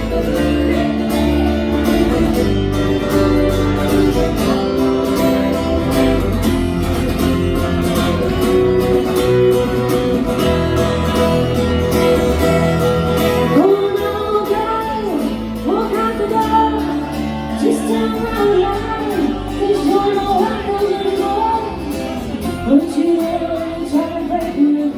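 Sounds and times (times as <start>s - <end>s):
pitch-bending melody line: 0.0s - 23.7s
live band playing: 0.0s - 24.9s.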